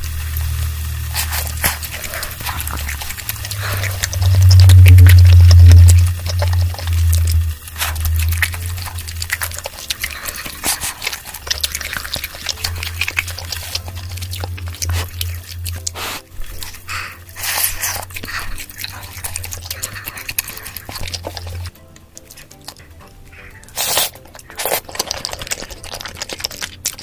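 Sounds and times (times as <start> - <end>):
crackling clicks: 0.0 - 22.9
person chewing and crunching food: 0.0 - 27.0
wet mouth smacks: 1.1 - 27.0.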